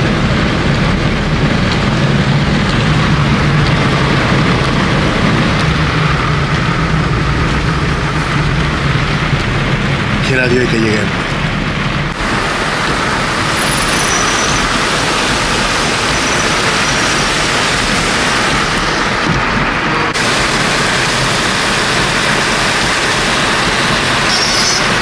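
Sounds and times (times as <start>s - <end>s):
cars splashing through water: 0.0s - 25.0s
heavy rain hissing: 0.0s - 25.0s.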